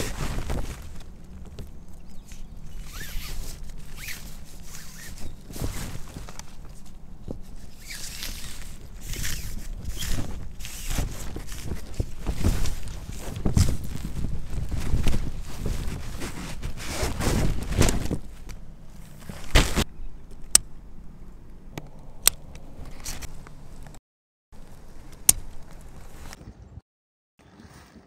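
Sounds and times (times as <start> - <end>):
rustling and shuffling: 0.0 - 20.6, 22.6 - 24.0, 24.6 - 26.5.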